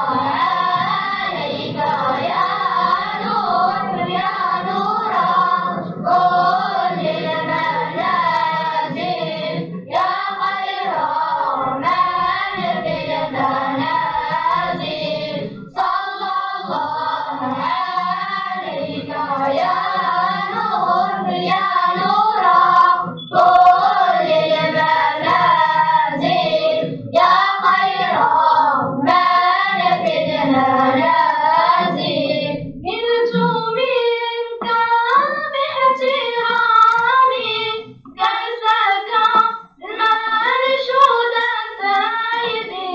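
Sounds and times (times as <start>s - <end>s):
children singing together: 0.0s - 42.9s.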